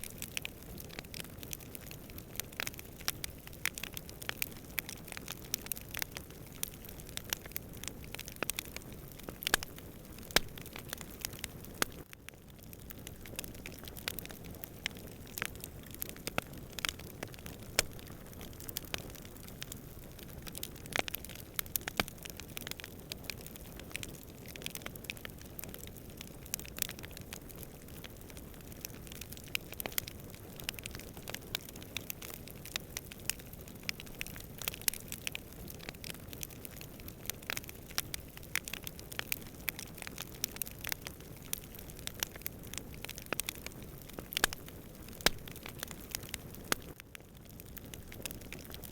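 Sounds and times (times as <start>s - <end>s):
burning wood popping and snapping: 0.0s - 48.9s
low rumble of flames: 0.0s - 48.9s.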